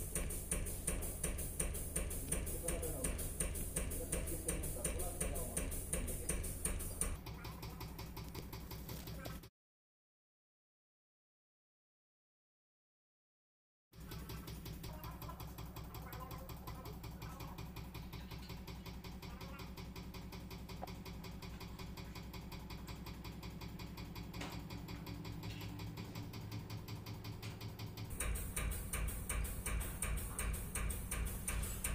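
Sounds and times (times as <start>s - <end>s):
sharp rapid ticking: 0.0s - 9.1s, 14.0s - 31.9s
diesel truck engine idling: 0.0s - 9.4s, 14.0s - 31.9s.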